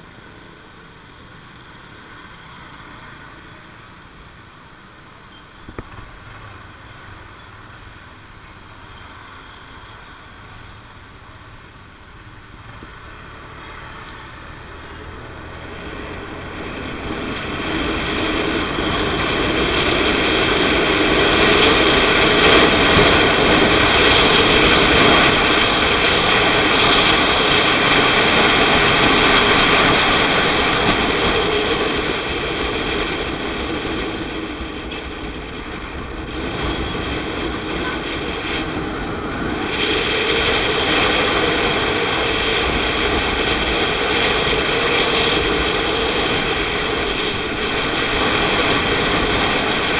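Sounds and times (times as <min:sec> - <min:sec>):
engine drone with steady tones: 0:00.0 - 0:49.9.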